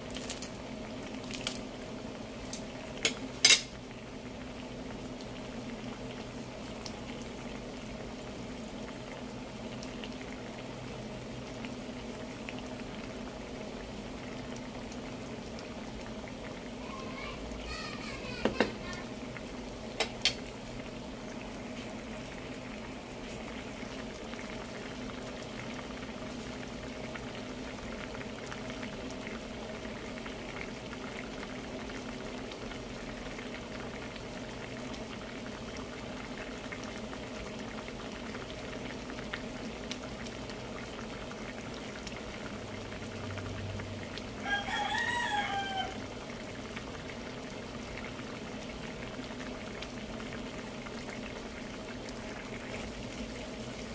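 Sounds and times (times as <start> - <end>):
liquid bubbling in a pan: 0.0 - 53.9.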